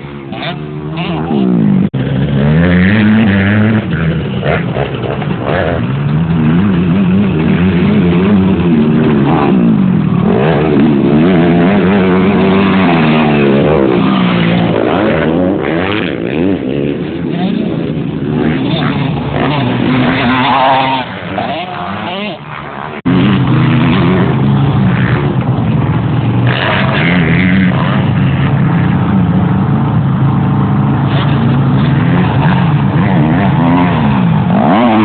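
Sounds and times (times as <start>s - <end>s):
motocross engines revving: 0.0s - 35.0s.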